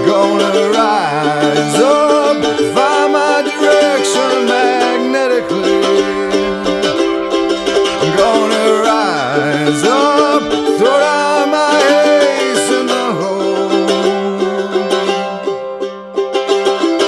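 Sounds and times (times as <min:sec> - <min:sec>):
person singing: 0:00.0 - 0:15.7
plucked string music: 0:00.0 - 0:17.0.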